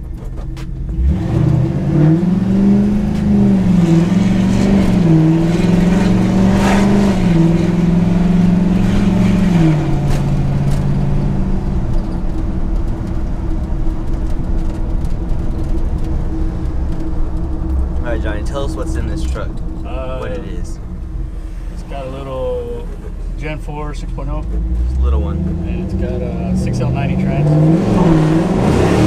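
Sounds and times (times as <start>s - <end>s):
road noise: 0.0s - 29.0s
pickup engine pulling hard: 0.8s - 29.0s.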